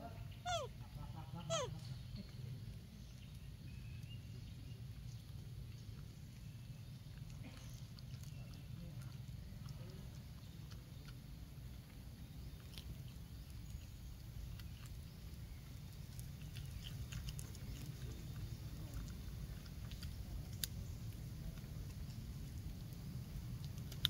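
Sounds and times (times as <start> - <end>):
low steady rumble: 0.0 - 24.0
monkey chewing: 0.5 - 0.8, 1.4 - 24.0.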